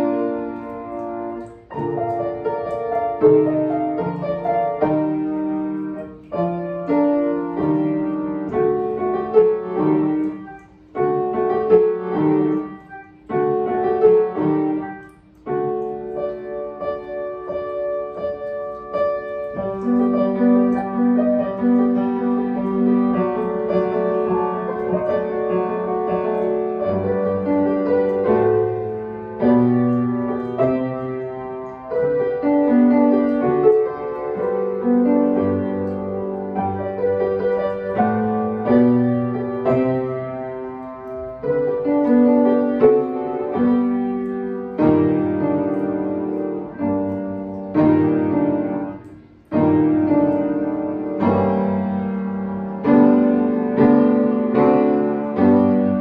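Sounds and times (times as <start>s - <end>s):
solo piano: 0.0s - 56.0s.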